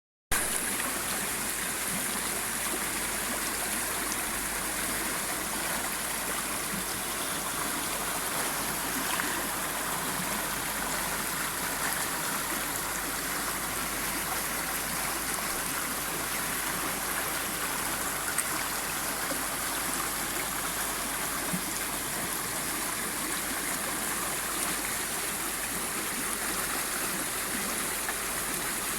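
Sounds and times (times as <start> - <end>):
stream babbling: 0.3 - 28.9.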